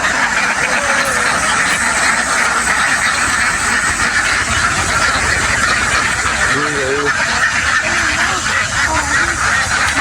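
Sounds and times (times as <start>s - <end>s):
flock of ducks quacking: 0.0s - 10.0s.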